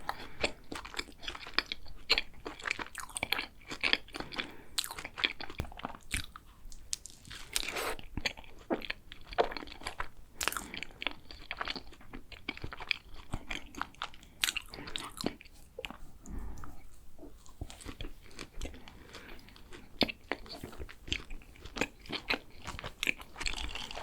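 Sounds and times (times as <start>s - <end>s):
crunching and chewing pastry: 0.0s - 24.0s.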